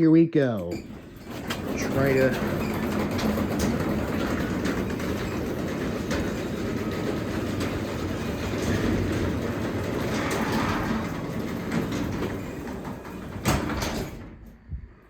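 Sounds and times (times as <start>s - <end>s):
garage door rumbling down tracks: 0.0s - 15.0s
garage door opener belt drive: 0.8s - 14.4s.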